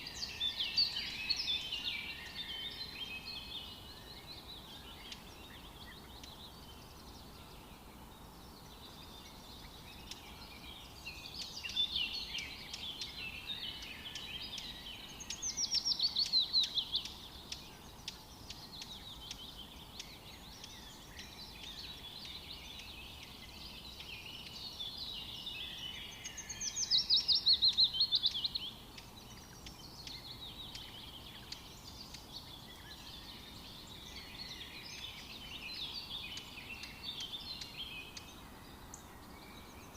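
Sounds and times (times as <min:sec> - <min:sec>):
loud falling bird song: 0:00.0 - 0:39.9
songbirds chirping: 0:00.0 - 0:39.9.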